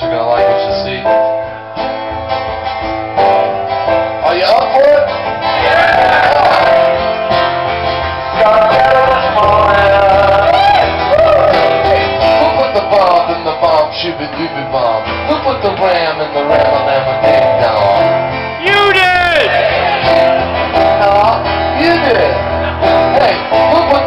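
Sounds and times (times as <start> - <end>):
live band playing amplified music: 0.0 - 24.0.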